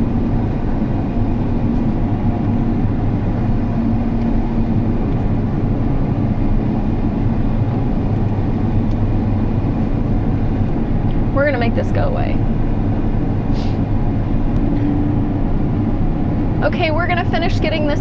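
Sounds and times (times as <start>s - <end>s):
harvester engine drone: 0.0s - 18.0s.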